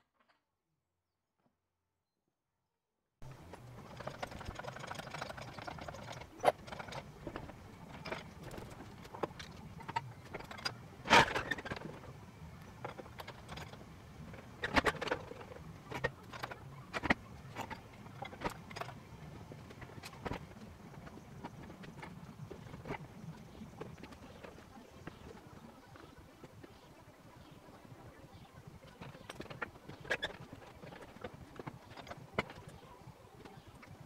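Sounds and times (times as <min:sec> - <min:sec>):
light rattle: 0:03.2 - 0:34.0.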